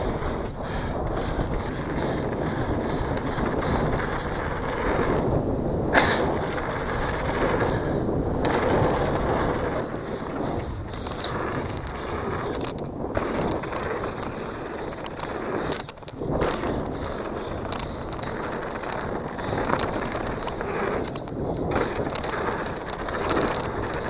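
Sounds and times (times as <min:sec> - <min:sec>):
bike rattling: 0:00.0 - 0:24.0
tyres rolling over dirt and stones: 0:00.0 - 0:24.0
wind on microphone: 0:00.0 - 0:24.0.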